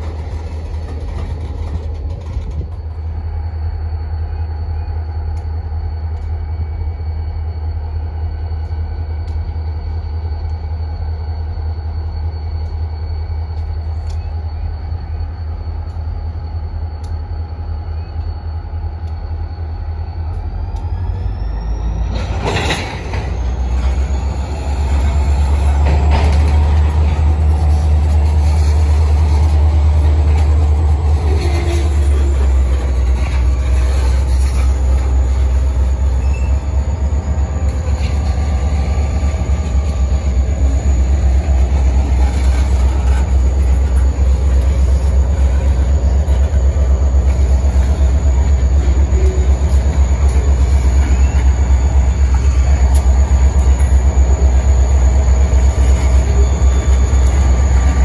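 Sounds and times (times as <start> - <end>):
train wheels rumbling on rail: 0.0 - 58.0
faint wheel squeals: 0.1 - 58.0.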